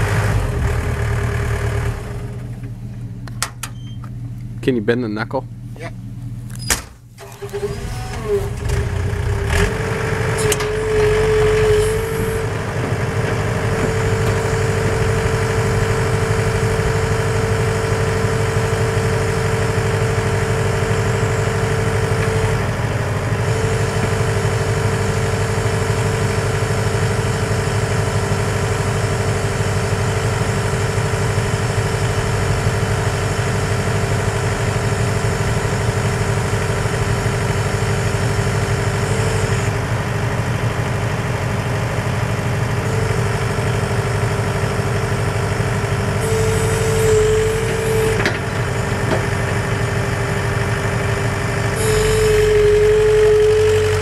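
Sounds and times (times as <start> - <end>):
diesel excavator engine running: 0.0 - 54.0.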